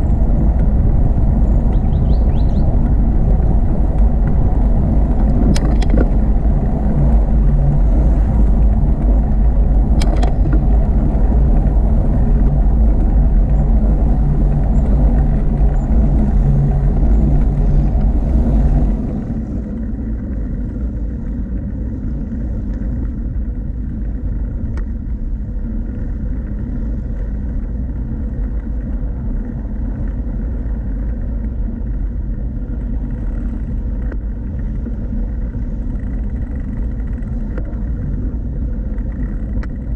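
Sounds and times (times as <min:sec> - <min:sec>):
bicycle ride whirr: 0:00.0 - 0:39.9
wind rumble on microphone: 0:00.0 - 0:39.9.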